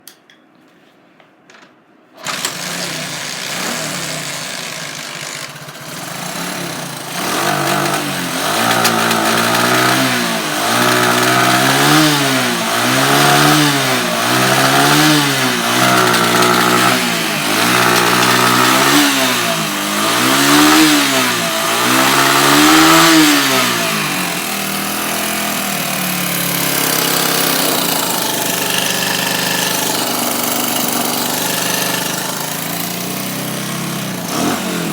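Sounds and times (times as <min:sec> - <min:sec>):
motorcycle engine idling and revving: 0:02.2 - 0:34.9.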